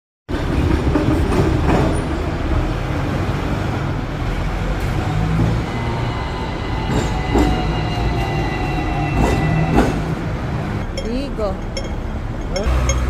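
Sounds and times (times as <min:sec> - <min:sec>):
electric tram rumbling on rails: 0:00.3 - 0:13.0.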